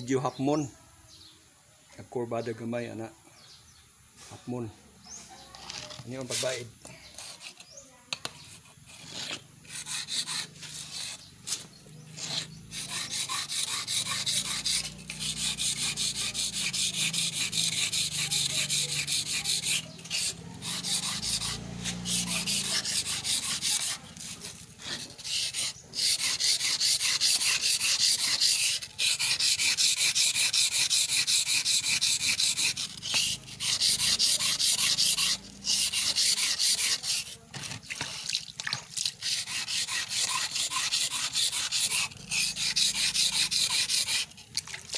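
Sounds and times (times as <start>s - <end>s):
steel scraping on sharpening stone: 5.5s - 38.3s, 39.0s - 44.5s.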